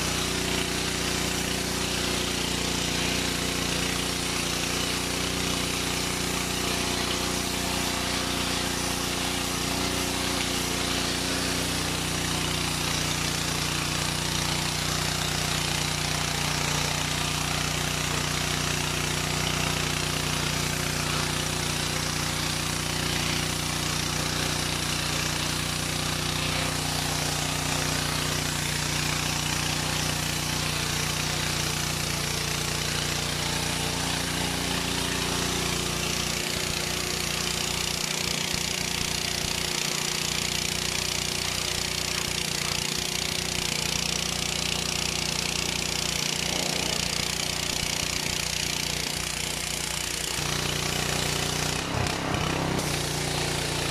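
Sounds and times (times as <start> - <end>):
pressure washer engine running: 0.0 - 53.9
water jet hissing on paving: 0.0 - 53.9.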